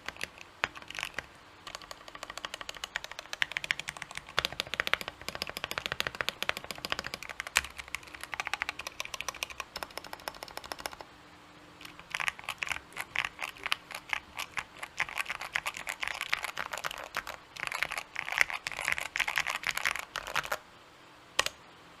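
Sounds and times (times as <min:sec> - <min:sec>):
fast typing on mechanical keyboard: 0:00.0 - 0:11.0, 0:11.8 - 0:20.6.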